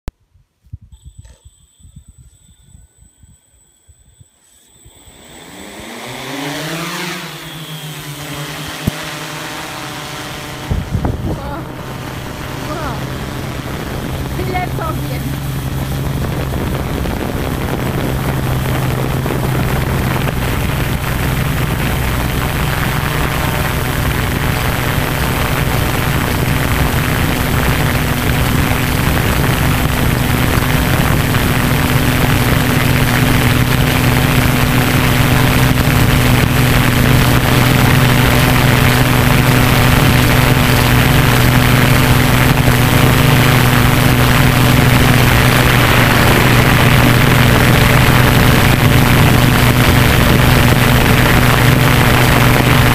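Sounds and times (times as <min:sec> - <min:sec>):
drone motors and propellers humming: 0:00.9 - 0:52.9.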